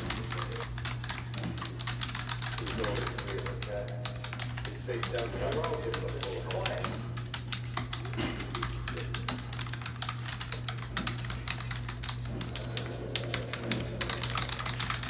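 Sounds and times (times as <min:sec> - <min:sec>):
fast keyboard typing: 0:00.0 - 0:15.0
steady low hum: 0:00.0 - 0:15.0.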